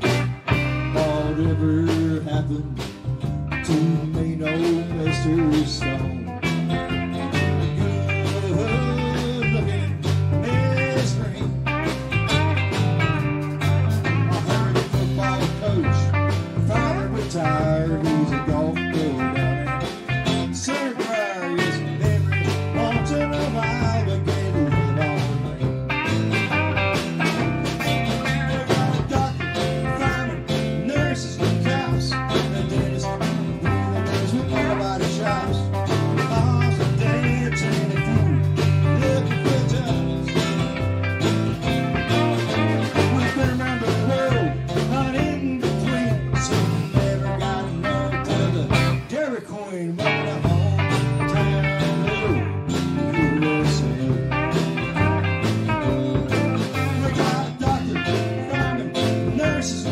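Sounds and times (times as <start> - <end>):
bending guitar notes: 0.0 - 49.2, 50.0 - 59.9
rock band playing instrumental: 0.0 - 59.9.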